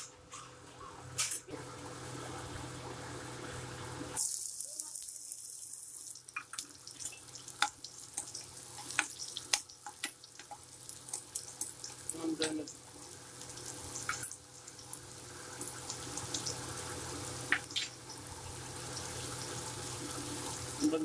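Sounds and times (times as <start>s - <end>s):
onions sizzling in hot oil: 1.5s - 21.0s.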